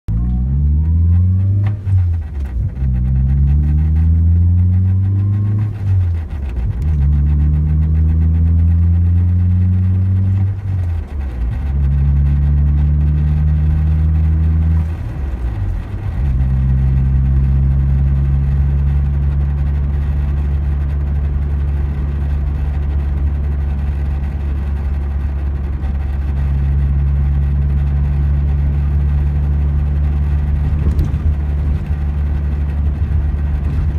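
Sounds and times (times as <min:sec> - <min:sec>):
car engine accelerating through gears: 0:00.1 - 0:33.9.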